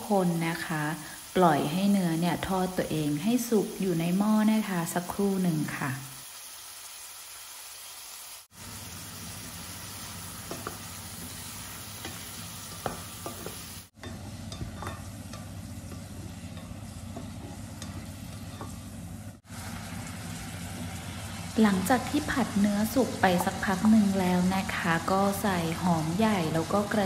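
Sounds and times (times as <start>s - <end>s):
meat sizzling in hot oil: 0.0s - 27.0s.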